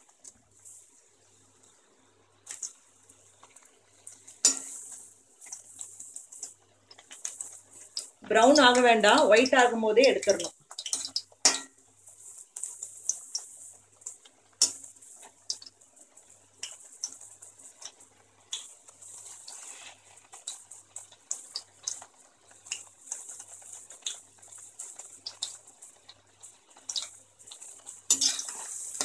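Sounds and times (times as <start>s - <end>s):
potatoes deep-frying in oil: 0.0s - 29.0s.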